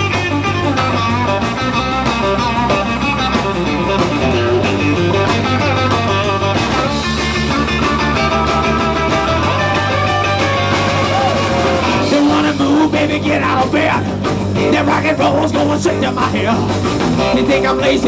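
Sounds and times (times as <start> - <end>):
lead guitar: 0.0 - 18.0
rock and roll band playing: 0.0 - 18.0.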